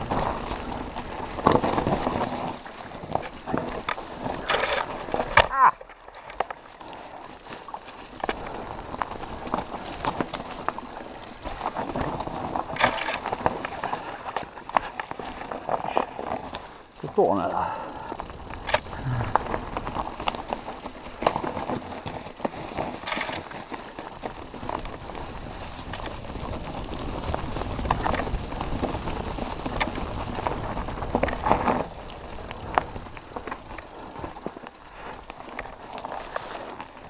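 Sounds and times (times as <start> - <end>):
bike rattling with sharp clicks: 0.0 - 37.0
bike tyres rumbling over rocks: 0.0 - 37.0.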